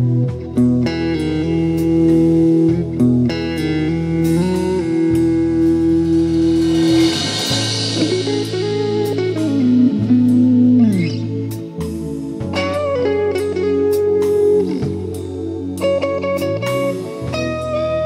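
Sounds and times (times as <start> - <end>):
blues guitar music: 0.0 - 18.0
steady bass line: 0.0 - 18.0.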